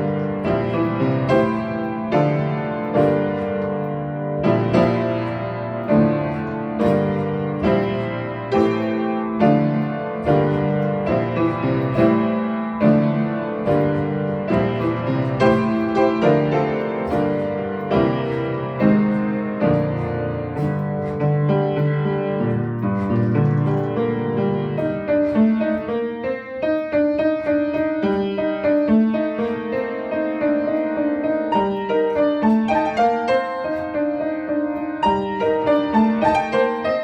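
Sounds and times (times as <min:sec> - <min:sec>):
slow upright piano piece: 0:00.0 - 0:37.0.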